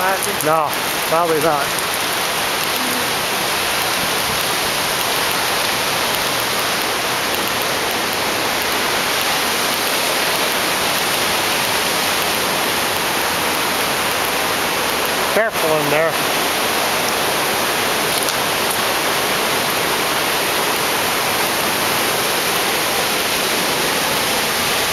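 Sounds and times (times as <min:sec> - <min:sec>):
white water rushing over rocks: 0:00.0 - 0:24.9.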